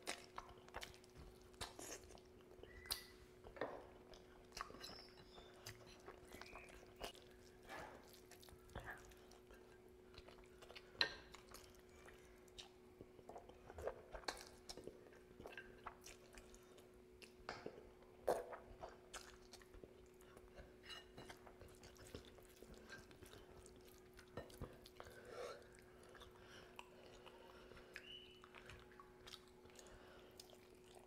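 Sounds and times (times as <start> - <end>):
close chewing with wet smacks: 0.0 - 31.0
faint steady hum: 0.0 - 31.0.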